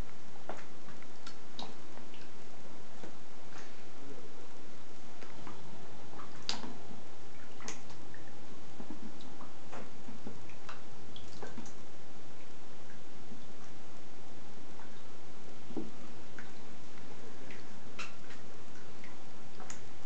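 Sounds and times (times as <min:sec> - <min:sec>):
rats splashing in water: 0:00.0 - 0:03.9, 0:04.5 - 0:20.0.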